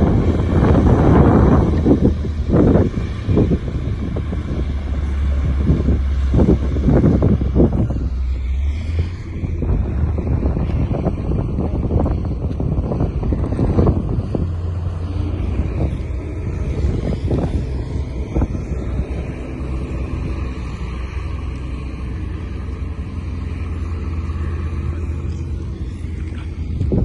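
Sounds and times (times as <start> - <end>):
heavy engine rumbling: 0.0 - 27.0.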